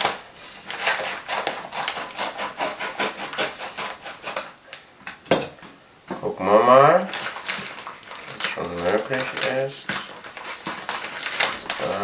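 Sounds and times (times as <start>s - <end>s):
scissors cutting plastic bag: 0.0s - 4.5s, 6.8s - 12.0s.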